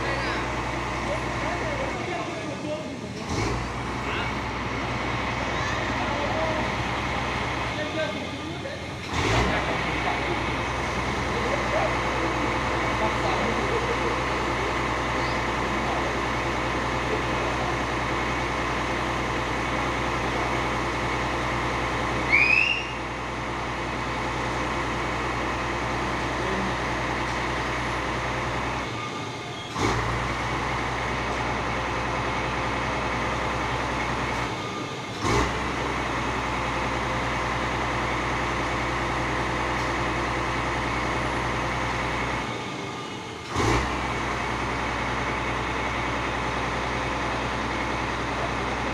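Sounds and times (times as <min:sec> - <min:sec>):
fire truck engine running: 0:00.0 - 0:48.9.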